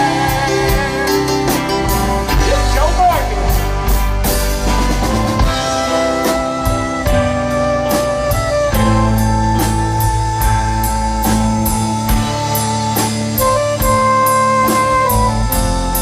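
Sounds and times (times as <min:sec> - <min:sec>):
bass guitar: 0:00.0 - 0:16.0
drum kit: 0:00.0 - 0:16.0
live rock band playing: 0:00.0 - 0:16.0.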